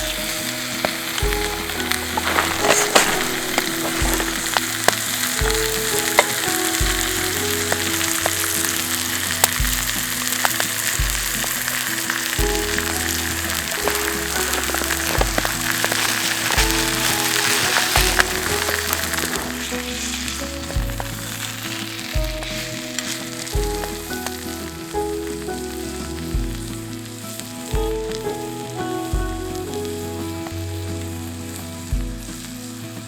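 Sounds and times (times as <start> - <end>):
instrumental background music: 0.0 - 33.0
steak sizzling over a fire: 0.0 - 33.0.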